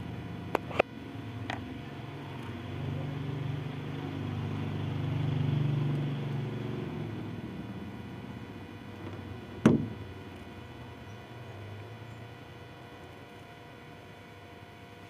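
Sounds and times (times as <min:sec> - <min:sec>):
vehicle engine drone passing: 0:00.0 - 0:13.0.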